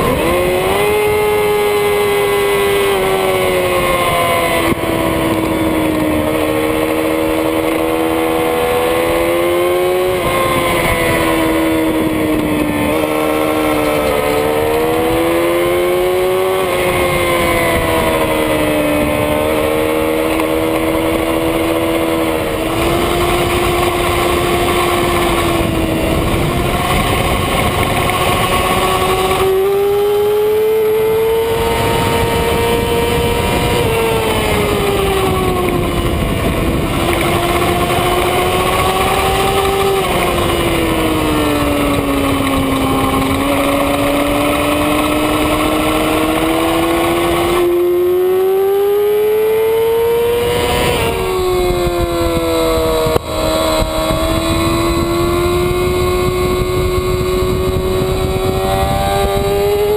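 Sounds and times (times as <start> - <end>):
motorcycle engine at speed: 0.0 - 59.9
wind rushing over microphone: 0.0 - 59.9.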